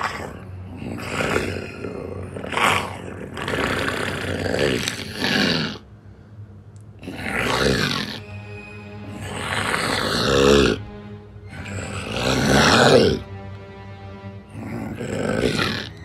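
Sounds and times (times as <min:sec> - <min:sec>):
person growling and roaring: 0:00.0 - 0:05.9, 0:07.0 - 0:08.3, 0:09.0 - 0:13.3, 0:14.5 - 0:16.0.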